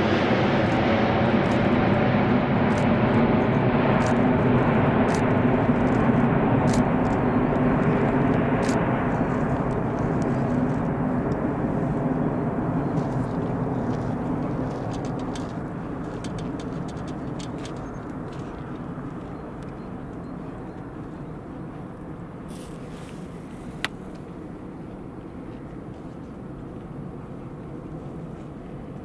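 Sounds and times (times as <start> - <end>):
jet engines at climb power: 0.0 - 29.0.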